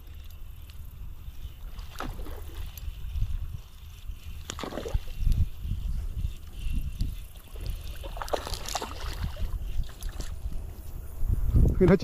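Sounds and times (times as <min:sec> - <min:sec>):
fishing reel cranking: 0:00.0 - 0:10.4
wind on microphone: 0:00.0 - 0:12.0.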